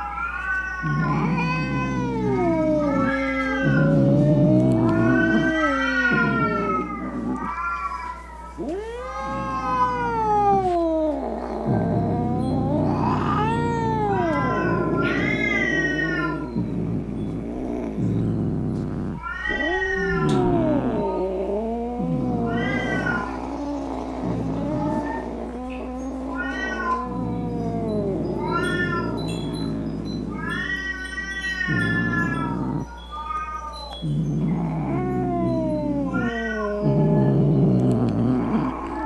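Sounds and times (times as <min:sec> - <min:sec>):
cat yowling: 0:00.0 - 0:39.0.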